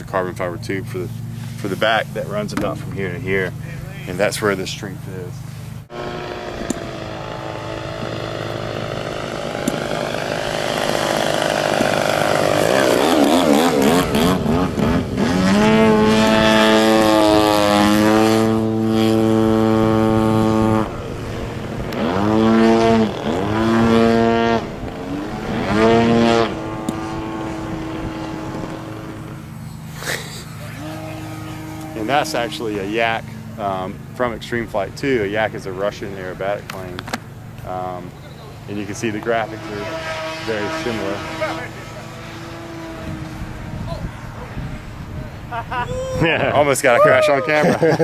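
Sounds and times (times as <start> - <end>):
model airplane engine and propeller: 0.0 - 45.6.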